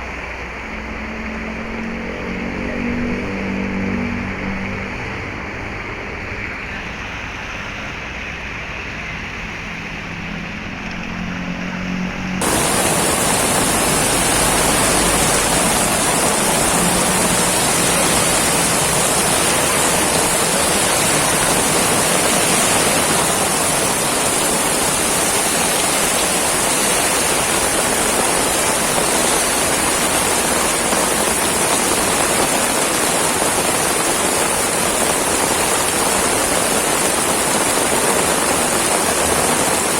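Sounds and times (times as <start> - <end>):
heavy rain downpour: 0.0 - 11.2, 12.4 - 39.9.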